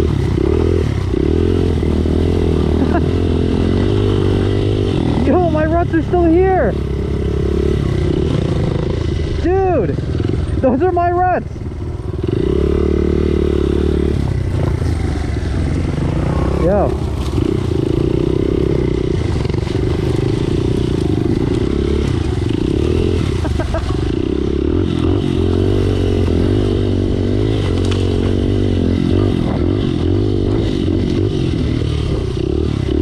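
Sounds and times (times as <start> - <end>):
pit bike engine revving: 0.0 - 33.0.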